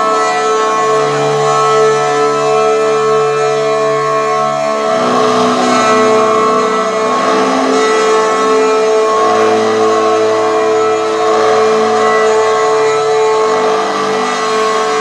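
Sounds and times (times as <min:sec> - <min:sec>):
electric cello drone: 0:00.0 - 0:15.0.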